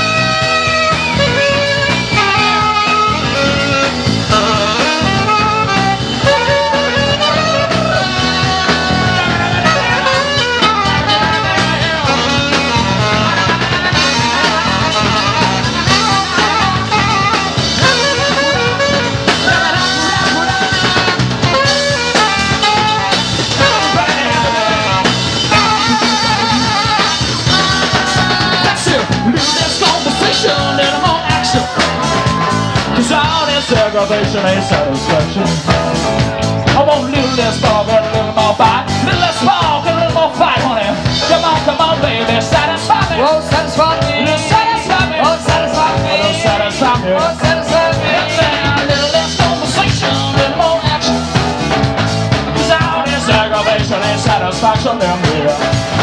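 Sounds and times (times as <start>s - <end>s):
drum kit: 0.0s - 56.0s
electric guitar: 0.0s - 56.0s
saxophone melody: 0.0s - 56.0s.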